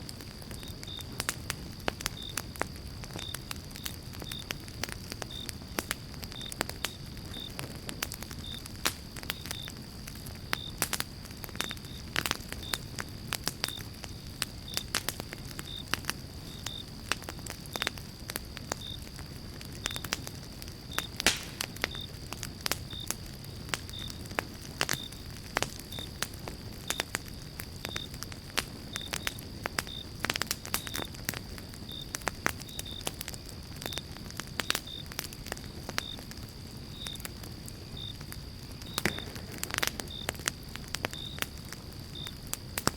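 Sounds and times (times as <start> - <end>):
campfire crackling and popping: 0.0 - 42.9
low rush of flame: 0.0 - 42.9.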